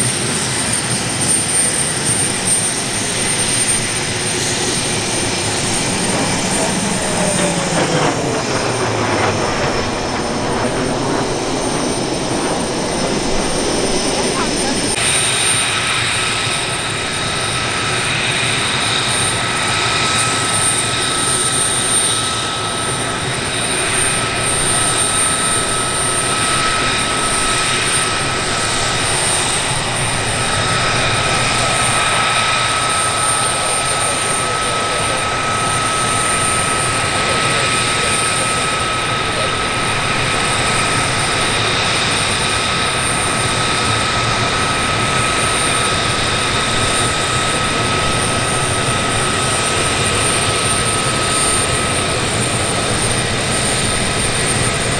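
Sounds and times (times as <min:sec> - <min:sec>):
jet engine whine: 0:00.0 - 0:54.9.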